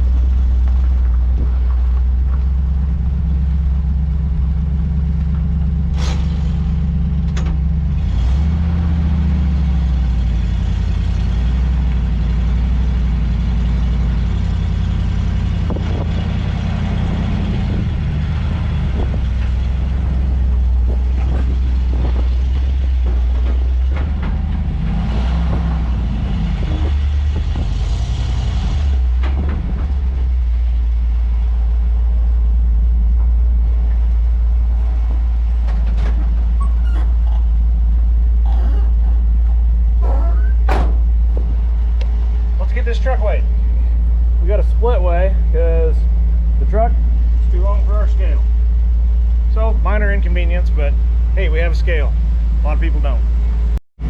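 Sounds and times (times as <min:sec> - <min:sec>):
truck engine droning: 0:00.0 - 0:53.8.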